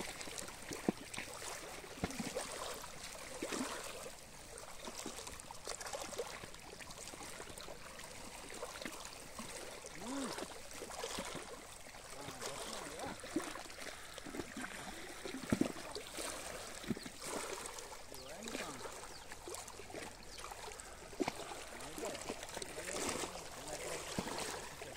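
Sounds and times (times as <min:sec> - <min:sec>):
louder water splashes: 0:00.0 - 0:06.4, 0:08.2 - 0:24.9
small waves lapping on stony shore: 0:00.0 - 0:24.9.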